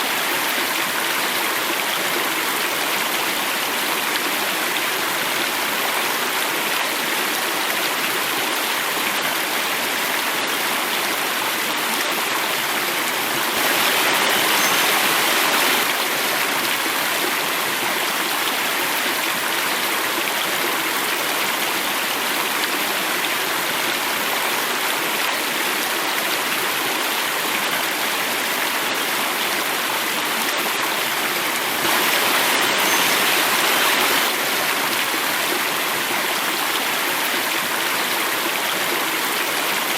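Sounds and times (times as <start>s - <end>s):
stream water flowing over cascade: 0.0s - 39.9s.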